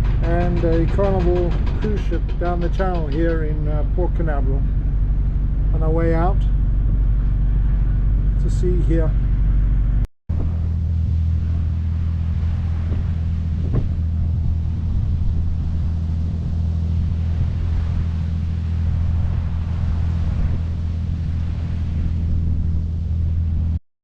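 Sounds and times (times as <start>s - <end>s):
boat diesel engine rumble: 0.0s - 23.8s
water noise: 0.0s - 23.8s
wind: 0.0s - 23.8s.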